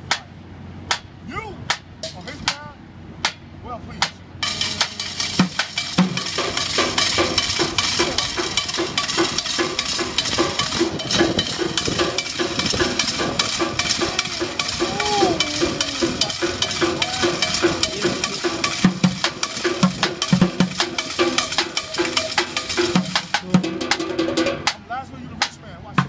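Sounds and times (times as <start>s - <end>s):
drumming on pots and metal: 4.0s - 26.0s.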